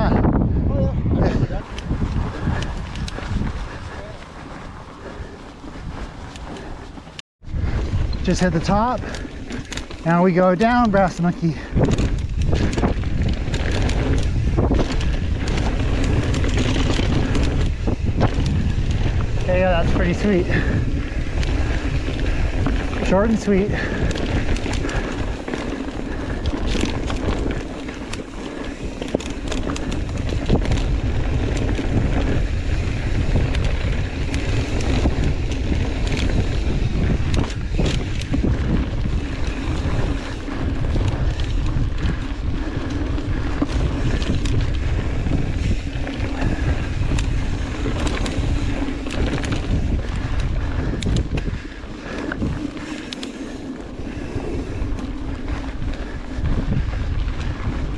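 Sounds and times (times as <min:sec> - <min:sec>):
bike rattling over rough ground: 0:00.0 - 0:57.9
bike tyres on dirt: 0:00.0 - 0:57.9
wind buffeting microphone: 0:00.0 - 0:57.9.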